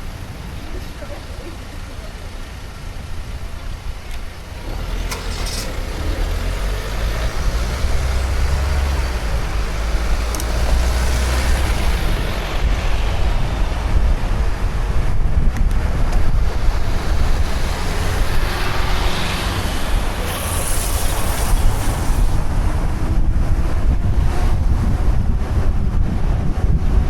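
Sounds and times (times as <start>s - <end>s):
deep low rumble: 0.0s - 27.0s
road traffic rumble: 0.0s - 27.0s
wind: 0.0s - 27.0s.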